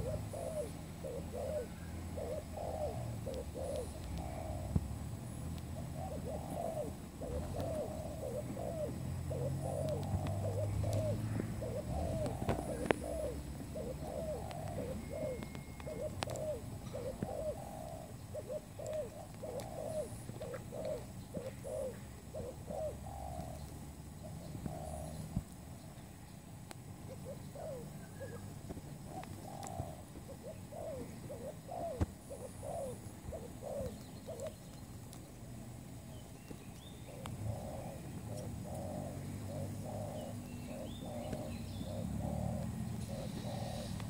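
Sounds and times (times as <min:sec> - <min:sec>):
dove cooing: 0:00.0 - 0:26.2, 0:26.9 - 0:44.0.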